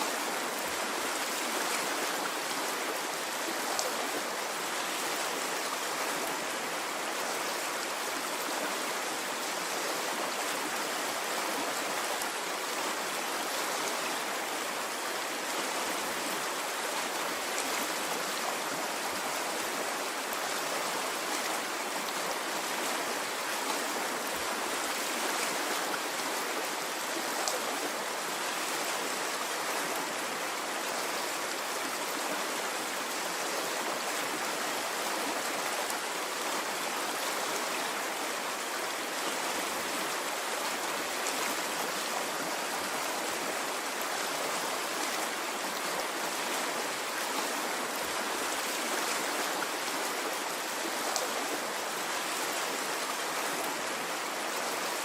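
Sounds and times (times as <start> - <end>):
stream of water flowing: 0.0 - 55.0.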